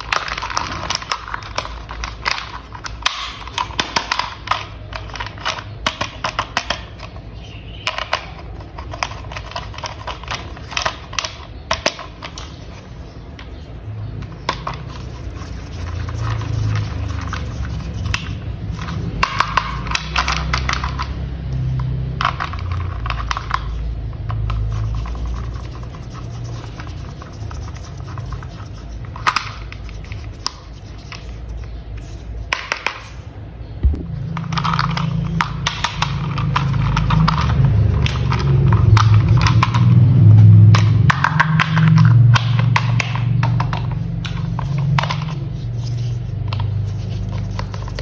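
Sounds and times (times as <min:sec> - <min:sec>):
low continuous hum: 0:00.0 - 0:48.0.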